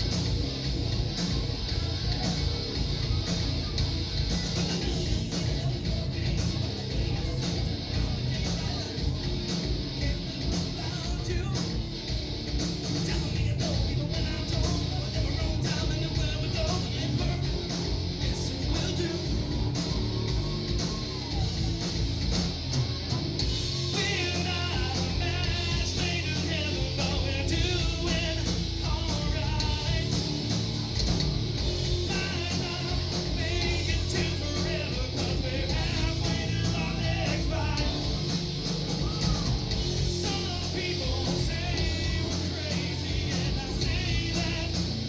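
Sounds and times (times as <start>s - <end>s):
rock band playing live: 0.0s - 45.0s
man singing: 3.1s - 11.8s, 12.9s - 21.9s, 23.5s - 30.4s, 31.8s - 38.3s, 38.9s - 45.0s.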